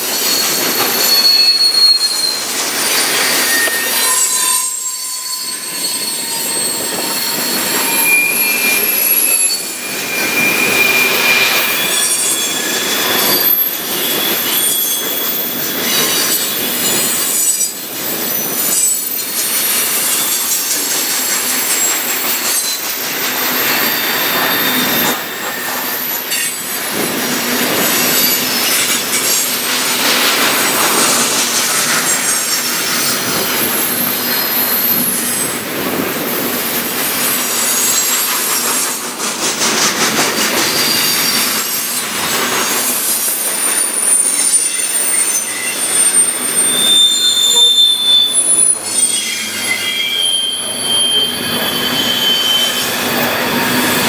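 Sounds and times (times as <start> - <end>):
high-pitched wheel squeals: 0.0 - 35.7, 36.6 - 54.0
train wheels rumbling on rails: 0.0 - 54.0.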